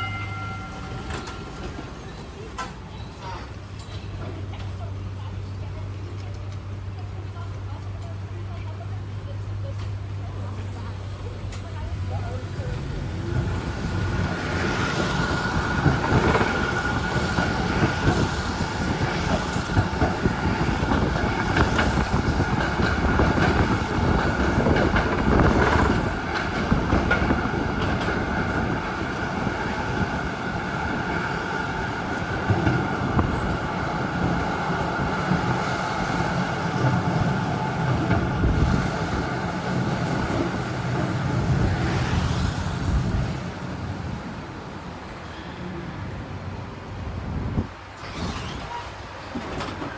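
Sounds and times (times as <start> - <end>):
tram wheels rumbling on rails: 0.0 - 49.9
wheels clacking: 0.0 - 49.9.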